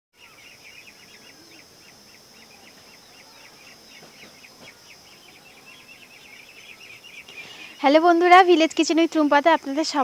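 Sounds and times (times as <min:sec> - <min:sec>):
birds chirping: 0:00.2 - 0:10.0
steady high-pitched hum: 0:00.2 - 0:10.0.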